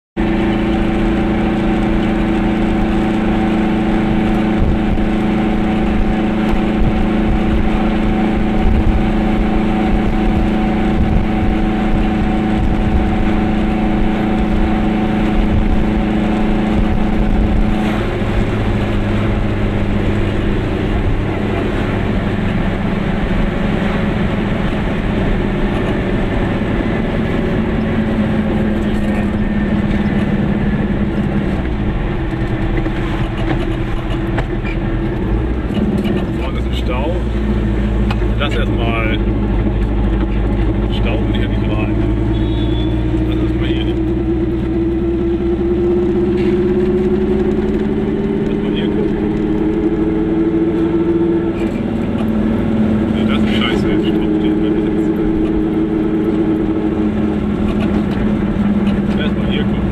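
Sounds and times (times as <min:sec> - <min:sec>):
road noise: 0:00.2 - 0:59.9
two-stroke car engine running: 0:00.2 - 0:59.9.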